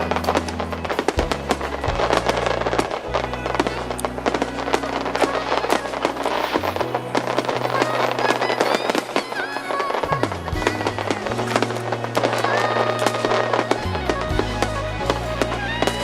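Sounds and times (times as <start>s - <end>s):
fireworks crackling and popping: 0.0s - 16.0s
music with low sustained notes: 0.0s - 16.0s.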